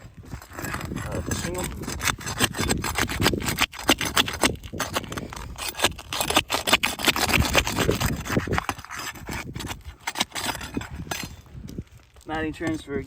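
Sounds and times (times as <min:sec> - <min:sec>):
roof shingles scraping and crackling: 0:00.0 - 0:12.4.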